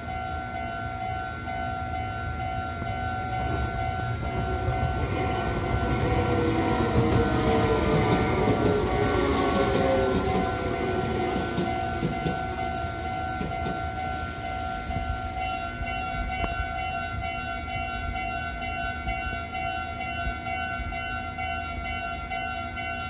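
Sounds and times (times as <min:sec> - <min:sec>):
higher warning tone: 0:00.0 - 0:20.9
electric train rumbling: 0:00.0 - 0:23.0
electronic crossing warning bell: 0:00.0 - 0:23.0.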